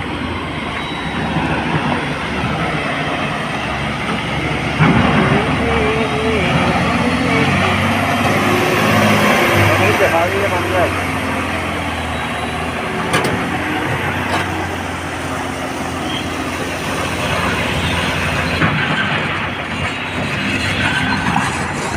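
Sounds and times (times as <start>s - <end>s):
heavy diesel machinery running: 0.0s - 21.9s.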